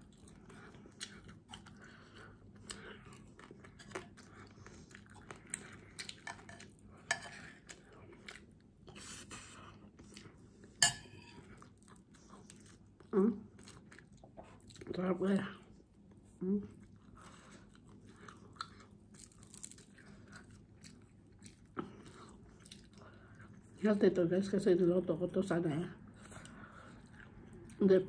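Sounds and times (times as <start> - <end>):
chewing and crunching: 0.0 - 24.0, 26.0 - 28.0.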